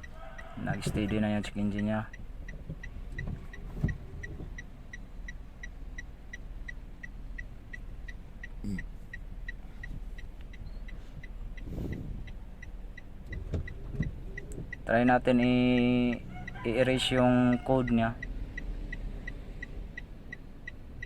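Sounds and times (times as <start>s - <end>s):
light even ticking: 0.0s - 21.0s.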